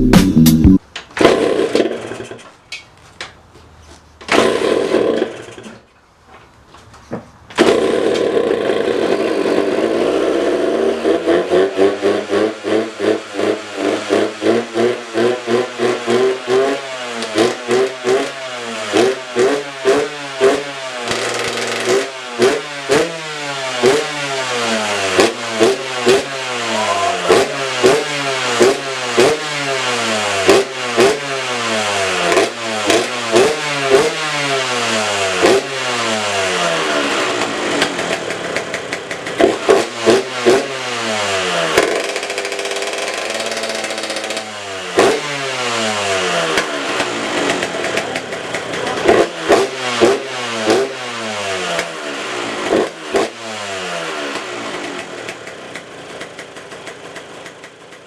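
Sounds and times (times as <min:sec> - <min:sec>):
two-stroke motorcycle engine revving: 0:00.0 - 0:02.4, 0:04.3 - 0:05.8, 0:07.6 - 0:58.0.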